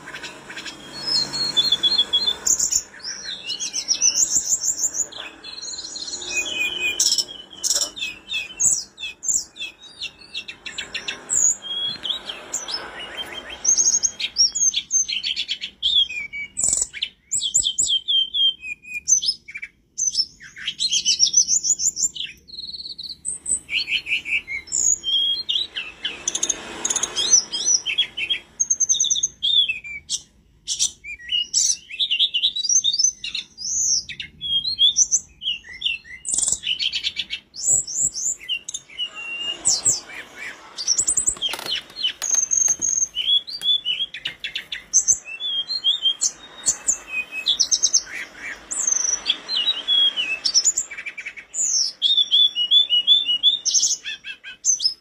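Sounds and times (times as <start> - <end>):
bird singing whistled trills: 0.0 - 55.0.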